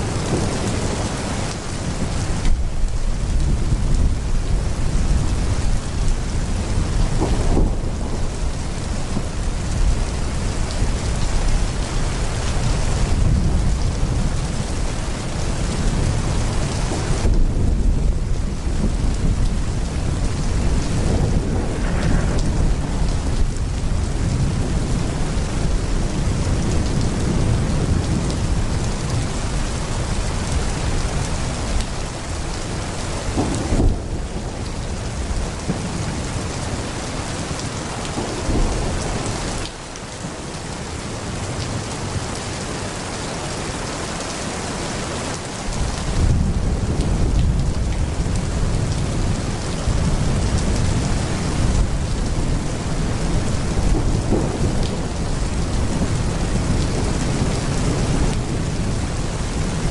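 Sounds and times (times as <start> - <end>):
rolling thunder rumble: 0.0 - 40.5, 45.7 - 59.9
heavy pouring rain: 0.0 - 59.9.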